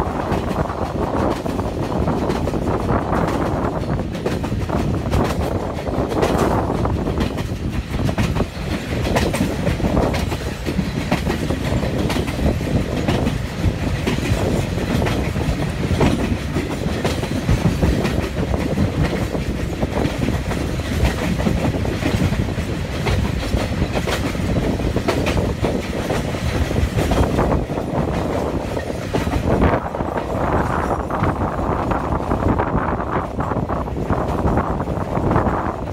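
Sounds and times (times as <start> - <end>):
train rumble and rush: 0.0 - 35.9
wheels clacking over rails: 0.0 - 35.9.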